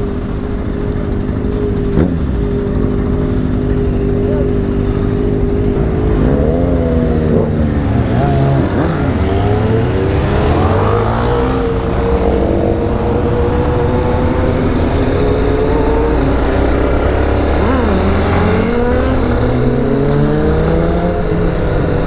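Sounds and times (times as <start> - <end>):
motorcycle engine revving: 0.0 - 22.0
wind and road rush: 0.0 - 22.0.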